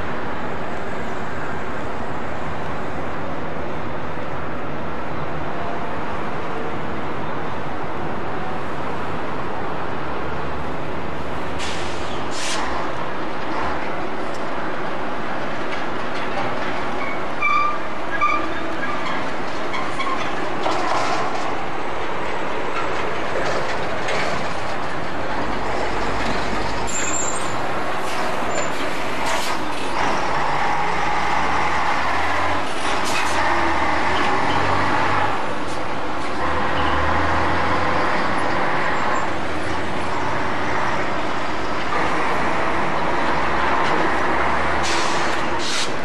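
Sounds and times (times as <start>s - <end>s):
diesel train passing: 0.0s - 46.0s.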